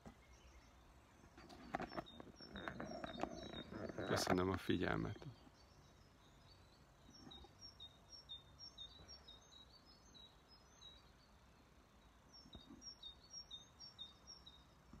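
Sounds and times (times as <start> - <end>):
birds chirping faintly: 0.0 - 15.0
outdoor background hiss: 0.0 - 15.0.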